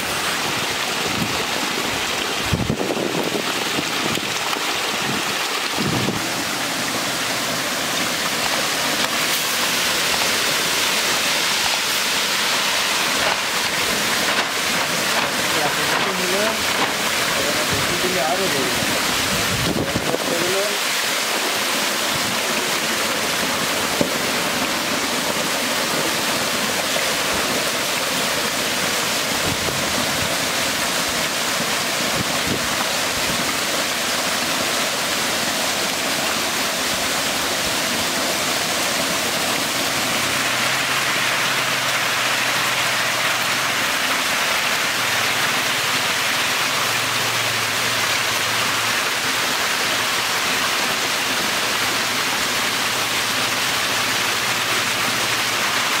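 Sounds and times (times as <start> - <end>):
water rushing and splashing: 0.0 - 56.0.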